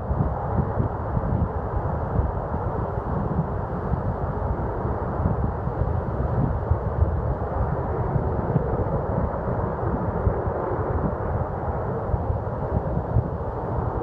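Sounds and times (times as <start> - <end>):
distant rocket engine rumble: 0.0 - 14.0.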